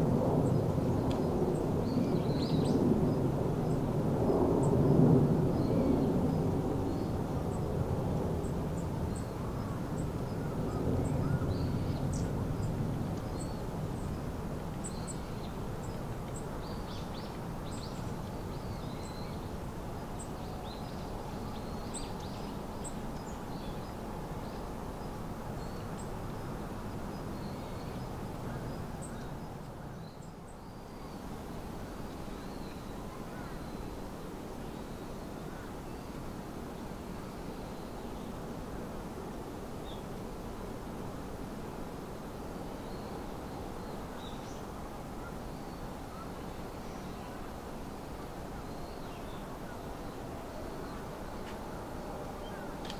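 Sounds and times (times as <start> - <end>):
outdoor background hiss: 0.0 - 52.9.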